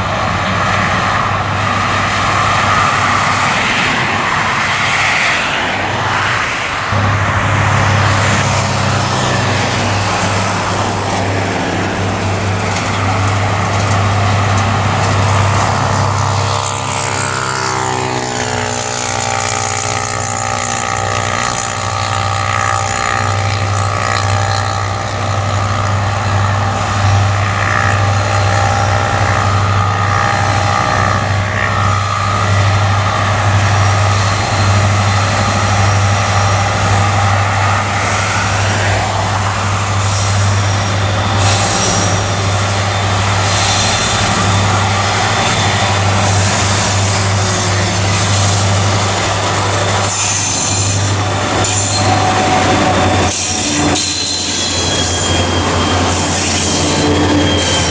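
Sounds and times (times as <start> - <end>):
locomotive engine drone: 0.0 - 57.9
locomotive whine: 0.0 - 57.9.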